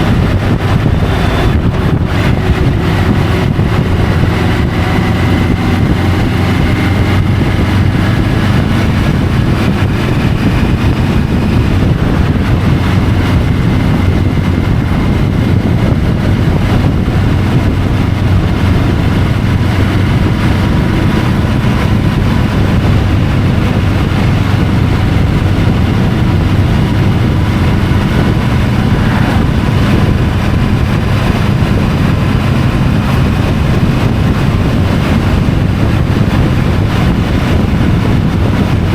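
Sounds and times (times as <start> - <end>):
motorcycle engine cruising: 0.0 - 38.9
road noise: 0.0 - 38.9
wind noise: 0.0 - 38.9.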